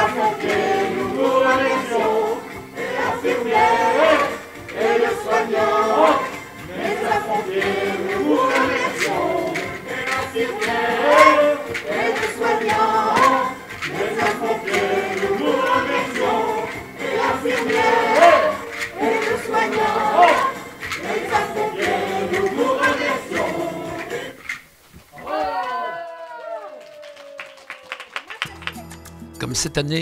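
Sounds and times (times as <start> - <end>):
choir singing: 0.0 - 24.5.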